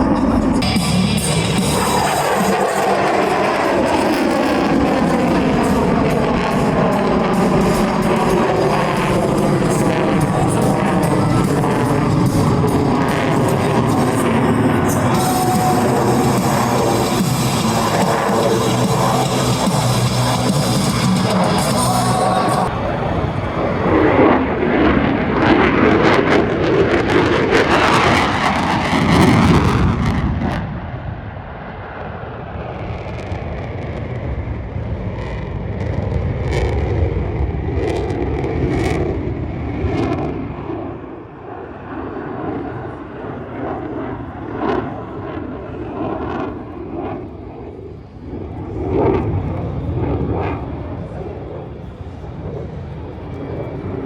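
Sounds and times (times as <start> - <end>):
aircraft engine noise: 0.0 - 54.0.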